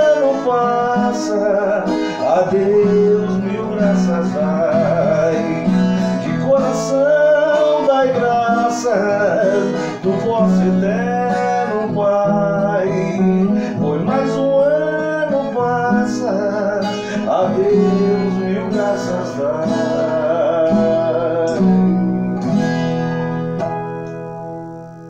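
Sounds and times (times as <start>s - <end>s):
person singing: 0.0s - 22.4s
plucked folk guitar melody: 0.0s - 25.0s.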